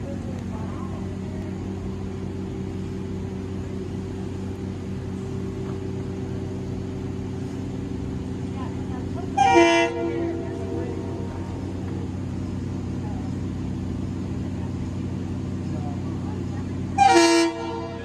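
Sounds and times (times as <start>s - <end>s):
engine droning steadily: 0.0s - 18.0s.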